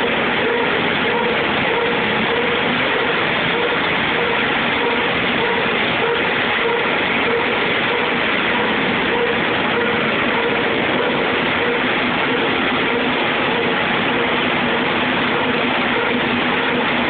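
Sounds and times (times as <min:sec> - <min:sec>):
machinery running: 0:00.0 - 0:17.0.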